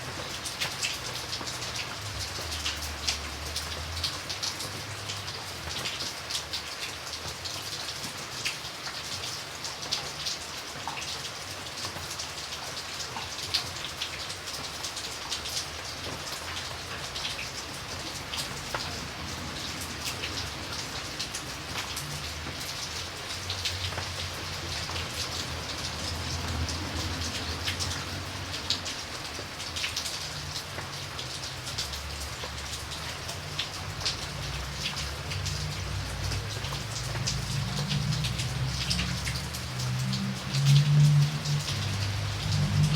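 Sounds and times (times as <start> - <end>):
raindrops striking surface: 0.0 - 42.9
steady rain hiss: 0.0 - 42.9.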